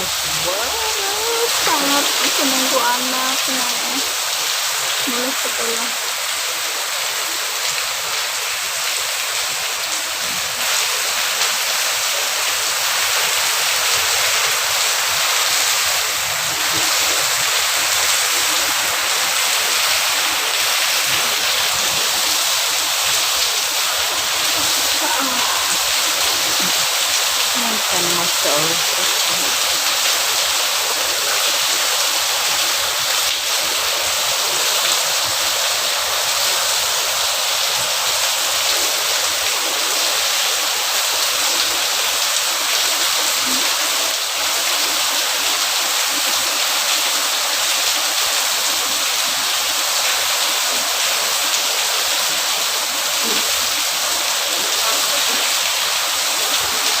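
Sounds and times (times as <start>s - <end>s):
heavy rain downpour: 0.0s - 57.0s.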